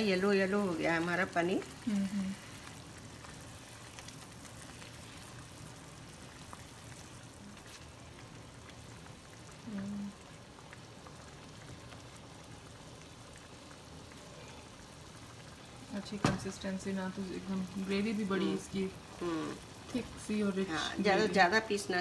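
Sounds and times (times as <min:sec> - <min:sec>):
gravy bubbling in a pan: 0:00.0 - 0:22.0.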